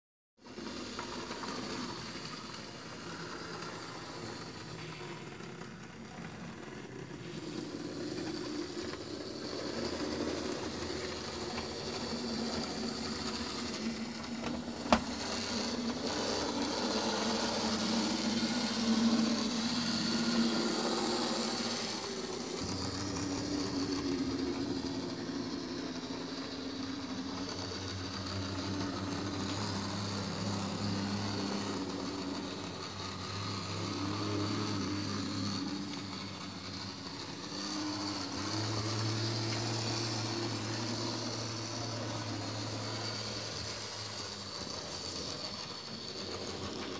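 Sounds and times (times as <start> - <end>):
model train motor whirring: 0.4 - 46.9.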